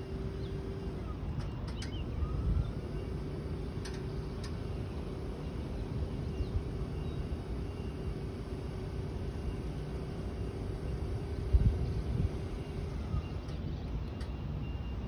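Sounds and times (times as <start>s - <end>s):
hydraulic pump motor humming: 0.0s - 14.4s.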